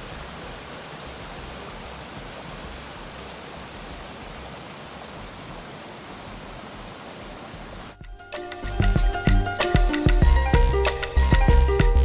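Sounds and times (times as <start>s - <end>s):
creek rushing over rocks: 0.0s - 11.5s.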